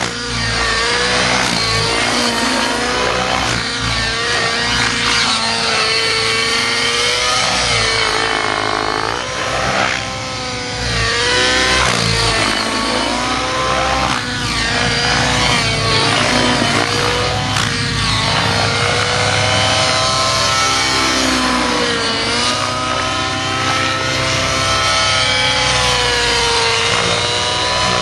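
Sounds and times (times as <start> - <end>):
model helicopter engine at high revs: 0.0 - 28.0.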